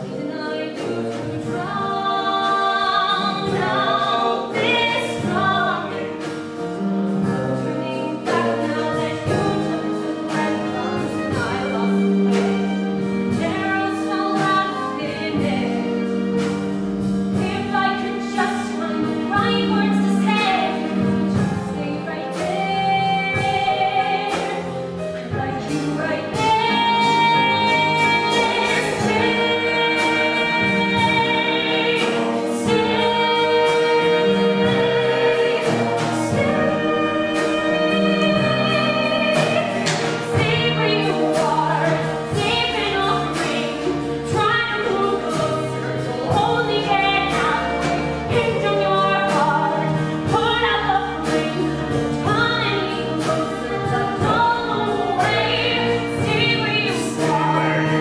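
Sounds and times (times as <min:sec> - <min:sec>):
pit band playing: 0:00.0 - 0:58.0.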